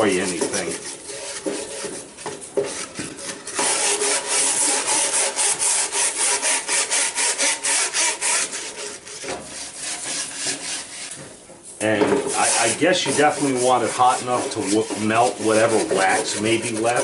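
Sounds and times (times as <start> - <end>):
wire brush scrubbing wood: 0.0 - 11.2, 11.8 - 17.0.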